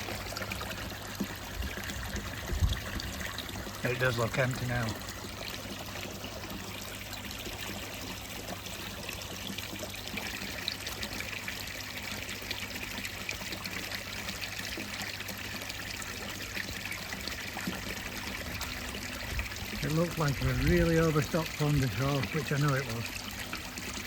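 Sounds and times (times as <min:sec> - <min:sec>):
water trickling into pond: 0:00.0 - 0:24.0.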